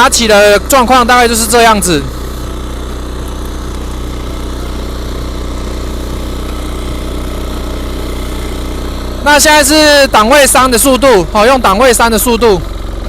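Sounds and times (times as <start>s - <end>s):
rotary tiller working soil: 0.0s - 13.0s
tiller engine running: 0.0s - 13.0s.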